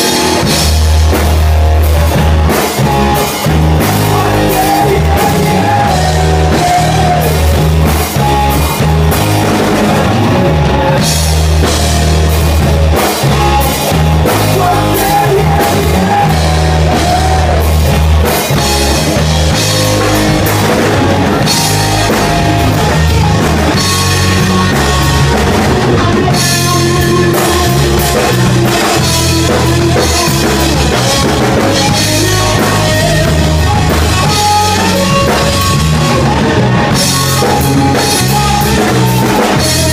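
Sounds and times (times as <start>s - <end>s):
rock band playing live: 0.0s - 39.9s
person singing: 1.8s - 8.9s, 13.3s - 39.9s.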